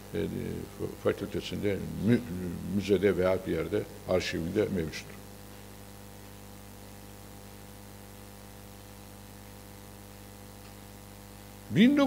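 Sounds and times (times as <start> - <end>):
electrical mains hum: 0.0 - 12.0
faint hiss: 0.0 - 12.0.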